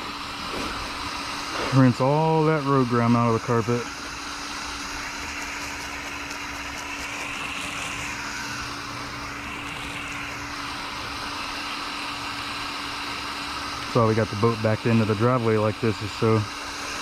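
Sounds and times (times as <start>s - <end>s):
steady hum: 0.0s - 17.0s
water spraying onto carpet: 0.0s - 17.0s.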